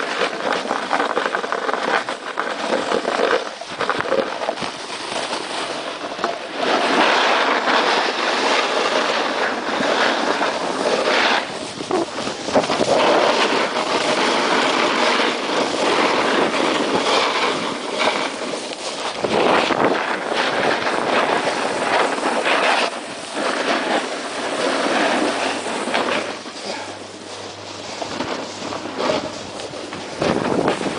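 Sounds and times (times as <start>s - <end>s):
snowboard scraping on snow: 0.0s - 30.9s.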